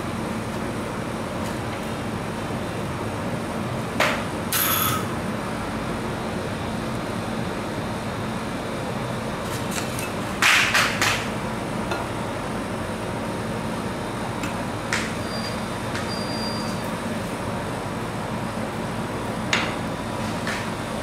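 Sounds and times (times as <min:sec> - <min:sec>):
refrigeration hum: 0:00.0 - 0:21.0.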